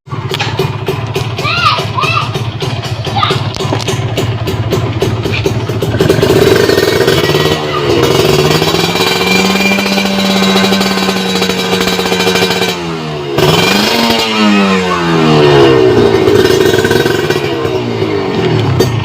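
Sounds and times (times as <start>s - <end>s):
two-stroke motorcycle engine revving: 0.1s - 19.0s.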